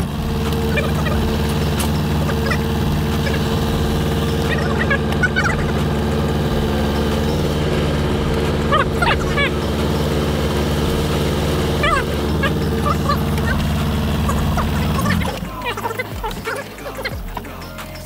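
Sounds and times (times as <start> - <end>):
heavy diesel engine running: 0.0 - 18.0
high squeaky chirps: 0.0 - 18.0.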